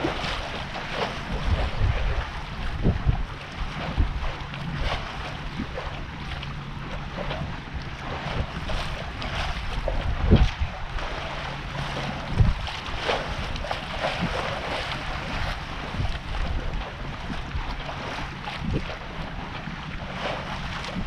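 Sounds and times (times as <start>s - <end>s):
low steady hum: 0.0s - 21.0s
water rushing past hull: 0.0s - 21.0s
wind buffeting microphone: 0.0s - 21.0s.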